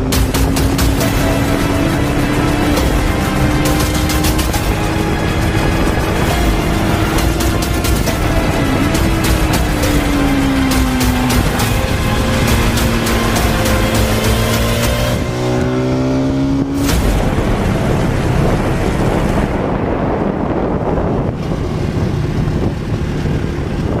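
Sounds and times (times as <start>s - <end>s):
motorcycle engine accelerating: 0.0s - 24.0s
steady rushing noise: 0.0s - 24.0s.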